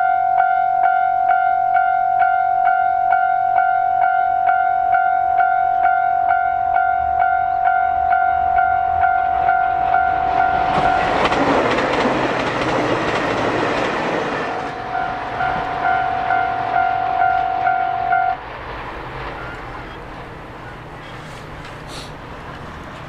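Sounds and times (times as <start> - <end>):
level crossing warning bell: 0.0 - 11.5, 14.7 - 18.4, 19.0 - 23.0
train passing: 0.0 - 23.0.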